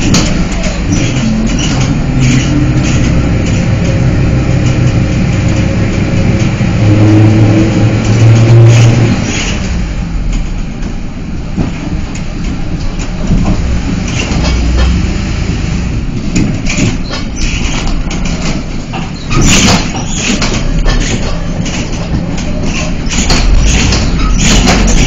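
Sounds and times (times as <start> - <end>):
bus body and windows rattling: 0.0 - 25.0
bus engine rumbling: 0.0 - 25.0.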